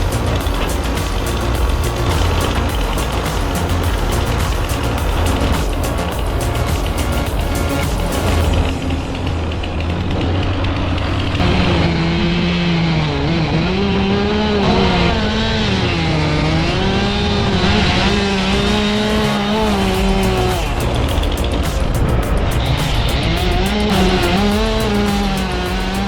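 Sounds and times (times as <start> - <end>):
heavy machine engine running: 0.0 - 26.0
strong engine drone: 0.0 - 26.0.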